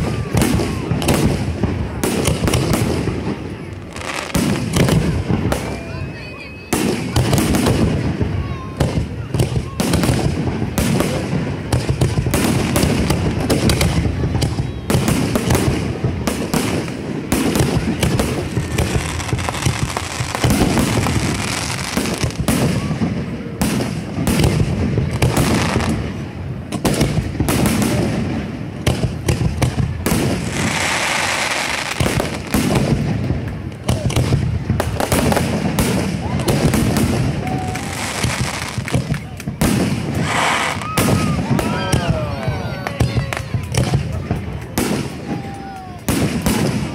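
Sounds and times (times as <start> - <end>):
fireworks booms and crackling bangs: 0.0 - 46.9
fireworks crackling hiss: 0.0 - 46.9.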